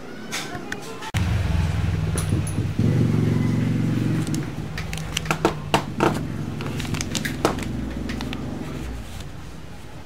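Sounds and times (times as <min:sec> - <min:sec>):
low steady hum: 0:01.2 - 0:10.0.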